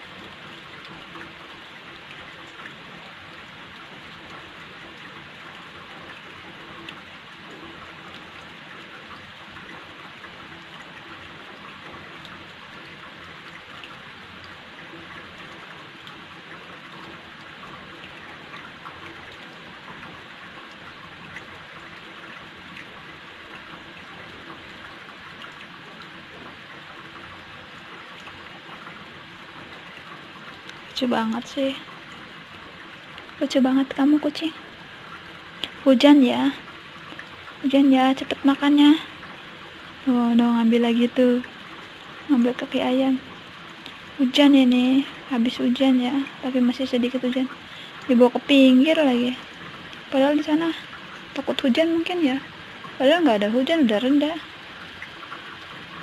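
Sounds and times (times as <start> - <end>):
light rain falling: 0.0 - 56.0
raindrop ticks: 0.0 - 56.0.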